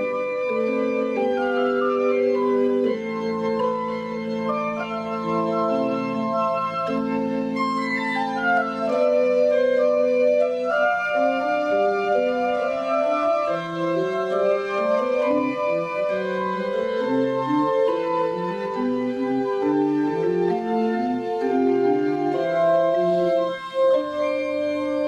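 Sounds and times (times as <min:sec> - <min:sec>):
pipe organ playing: 0:00.0 - 0:25.0.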